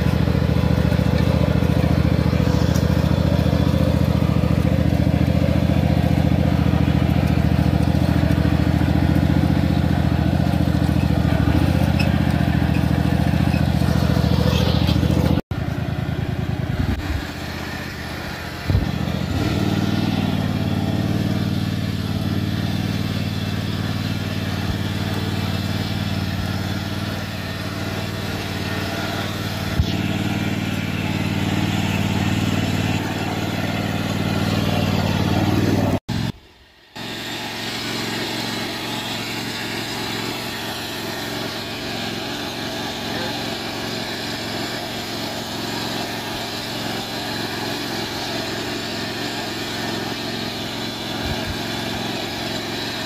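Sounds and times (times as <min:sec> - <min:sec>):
riding lawn mower engine: 0:00.0 - 0:53.0.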